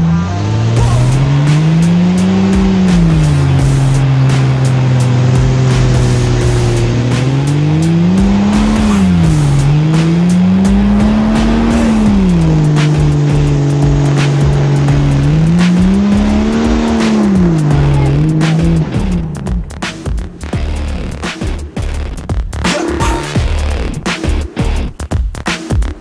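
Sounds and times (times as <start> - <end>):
car engine revving under load: 0.0 - 25.1.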